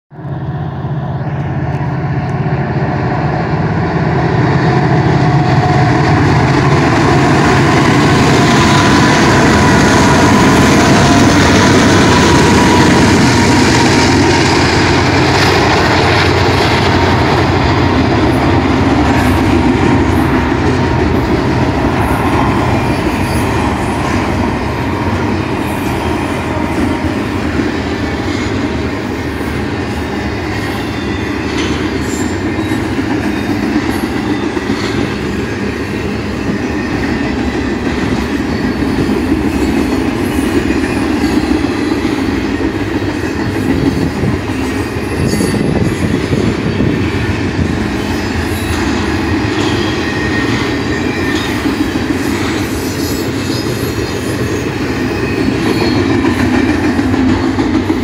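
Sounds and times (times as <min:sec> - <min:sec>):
diesel locomotive engine drone: 0:00.1 - 0:58.0
train wheels rolling on rails: 0:00.2 - 0:58.0.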